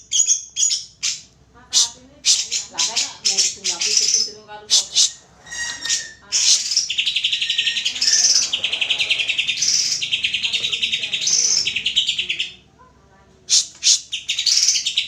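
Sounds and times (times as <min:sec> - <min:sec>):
bird singing chattering song: 0:00.0 - 0:12.6, 0:13.5 - 0:15.0.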